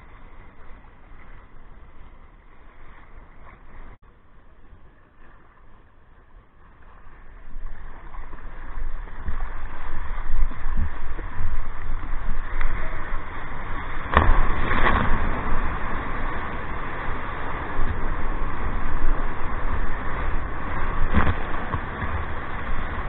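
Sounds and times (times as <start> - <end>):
water lapping: 0.0 - 23.0
water rushing and splashing on hull: 0.0 - 23.0.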